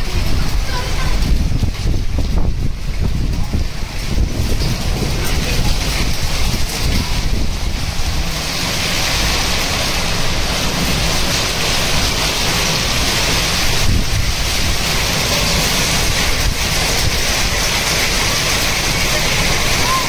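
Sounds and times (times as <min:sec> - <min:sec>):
hail and rain on concrete roof: 0:00.0 - 0:20.0
wind rumbling on microphone: 0:00.0 - 0:20.0.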